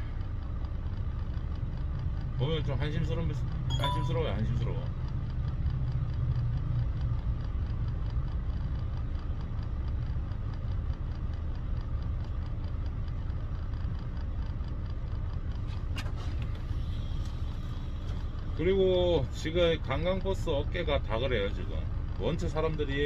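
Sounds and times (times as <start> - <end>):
bus engine rumble: 0.0 - 23.0
road noise: 0.0 - 23.0.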